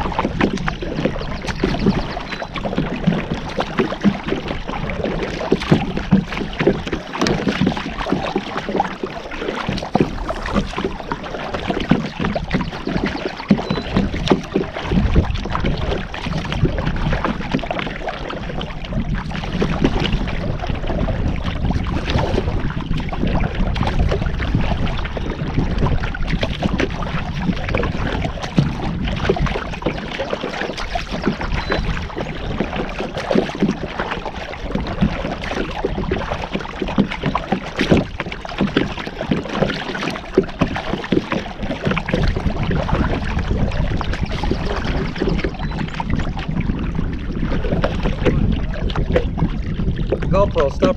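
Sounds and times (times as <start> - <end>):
water splashing around kayak: 0.0 - 50.9.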